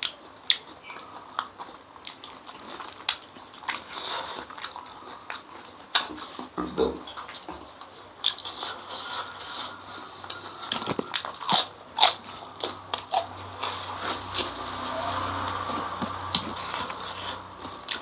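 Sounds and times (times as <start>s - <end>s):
person chewing and crunching food: 0.0s - 18.0s.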